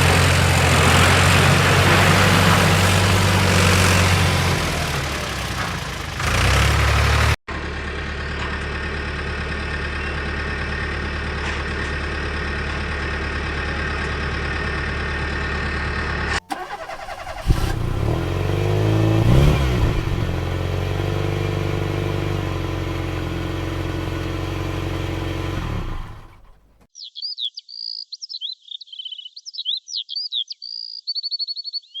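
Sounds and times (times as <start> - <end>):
vehicle engine idling and revving: 0.0 - 26.9.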